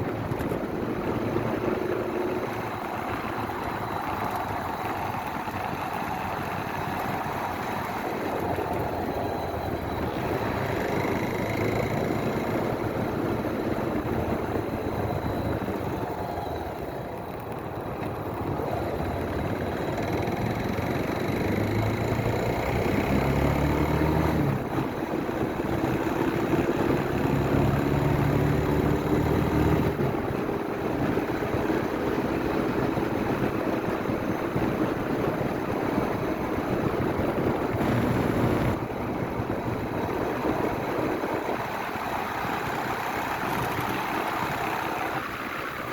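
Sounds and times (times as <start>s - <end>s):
motorcycle engine running: 0.0s - 45.9s
road and wind noise: 0.0s - 45.9s.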